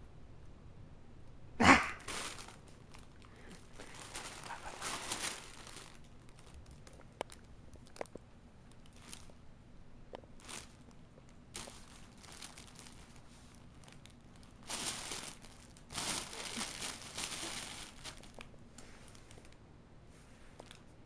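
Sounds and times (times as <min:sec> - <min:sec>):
cat rustling crinkly material: 0:02.0 - 0:09.5, 0:10.2 - 0:20.9.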